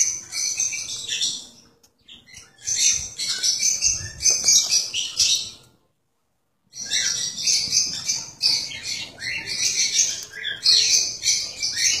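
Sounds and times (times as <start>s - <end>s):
cockatiels chirping and squawking: 0.0s - 5.7s, 6.7s - 12.0s.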